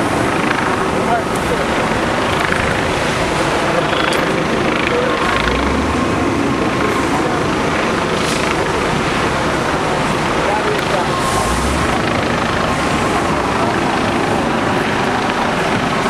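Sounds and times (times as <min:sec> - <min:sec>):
fire truck engines running: 0:00.0 - 0:16.0.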